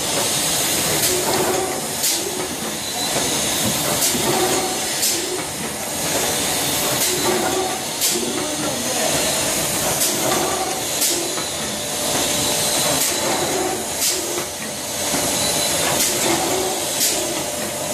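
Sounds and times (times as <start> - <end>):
packaging machine hissing: 0.0 - 17.9.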